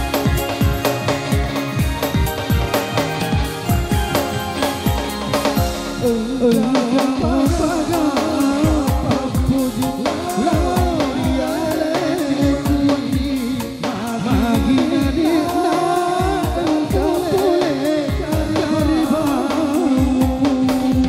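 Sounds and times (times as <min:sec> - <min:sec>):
backing instruments: 0:00.0 - 0:21.0
person singing: 0:00.0 - 0:21.0
steady drum beat: 0:00.0 - 0:21.0.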